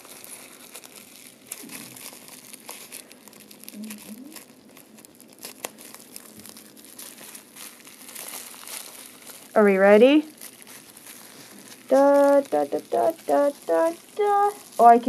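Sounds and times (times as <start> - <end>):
bubble wrap crackling: 0.0 - 15.0.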